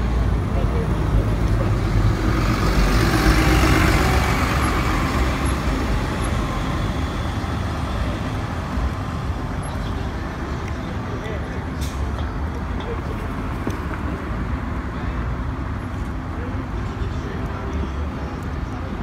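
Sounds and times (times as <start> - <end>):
bus engine rumble: 0.0 - 19.0
road noise: 0.0 - 19.0.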